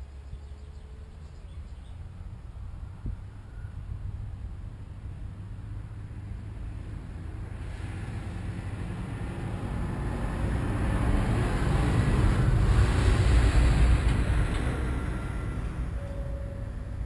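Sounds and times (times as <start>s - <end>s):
wind buffeting microphone: 1.4s - 16.8s.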